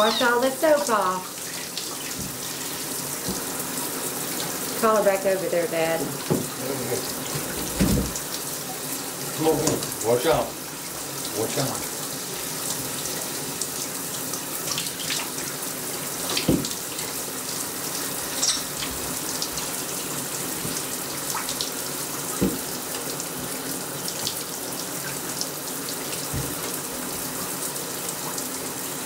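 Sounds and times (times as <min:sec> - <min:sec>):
shower water running: 0:00.0 - 0:29.0.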